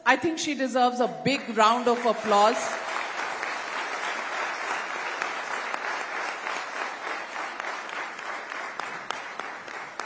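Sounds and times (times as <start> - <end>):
large audience applauding: 1.8 - 10.0.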